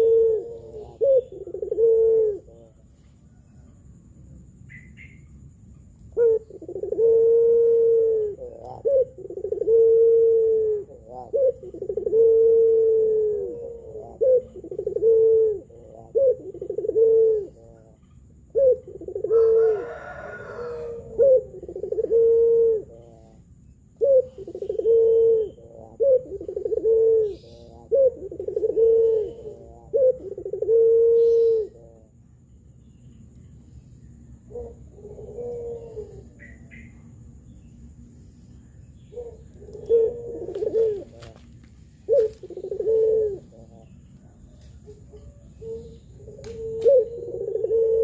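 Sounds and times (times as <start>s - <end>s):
dove cooing: 0.0s - 4.0s, 6.1s - 32.5s, 33.4s - 48.0s.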